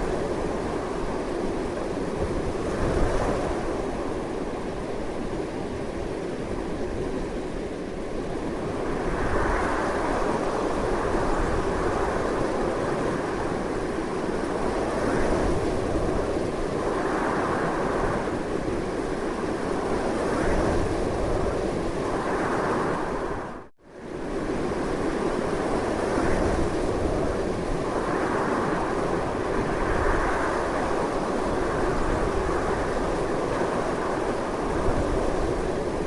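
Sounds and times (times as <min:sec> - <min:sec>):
strong wind blowing: 0:00.0 - 0:36.0.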